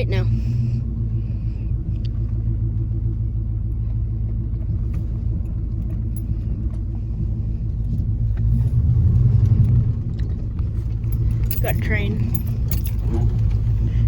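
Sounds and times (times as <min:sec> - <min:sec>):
engine deep rumble: 0:00.0 - 0:14.0
road noise: 0:00.0 - 0:14.0.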